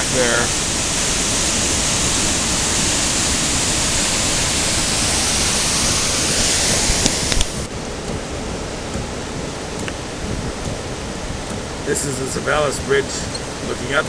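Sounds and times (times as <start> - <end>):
whitewater roaring: 0.0 - 14.0.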